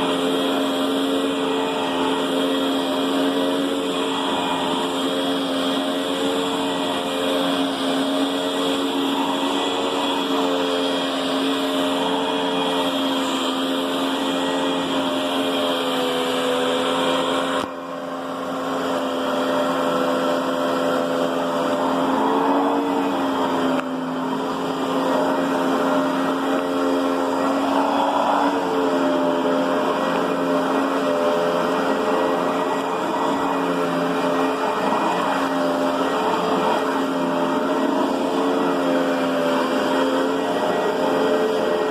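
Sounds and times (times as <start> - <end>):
upright vacuum cleaner running: 0.0 - 41.9.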